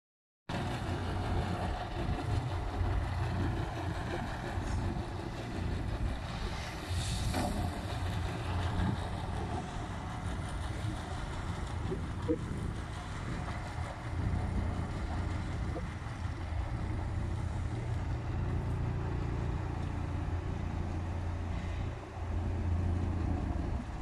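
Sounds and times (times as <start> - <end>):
excavator diesel engine running: 0.5 - 24.0.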